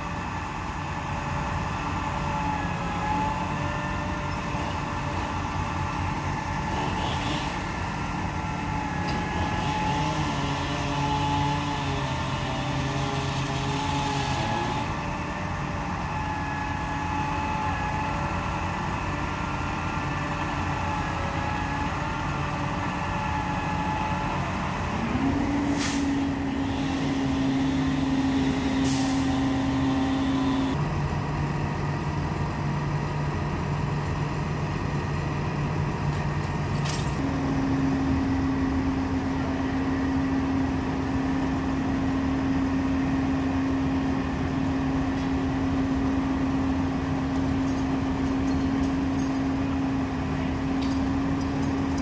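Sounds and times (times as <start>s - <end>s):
truck engines droning: 0.0s - 52.0s.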